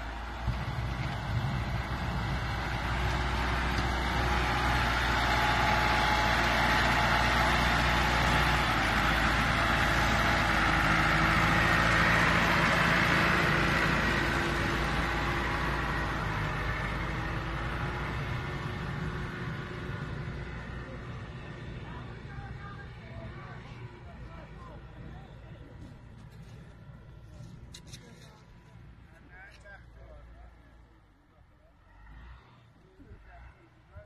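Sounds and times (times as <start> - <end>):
tractor engine running: 0.0 - 31.2.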